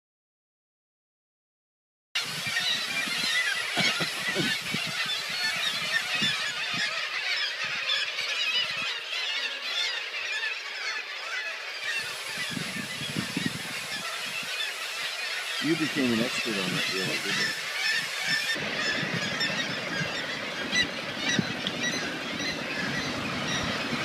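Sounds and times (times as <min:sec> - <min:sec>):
seabird colony calling: 0:02.2 - 0:24.0.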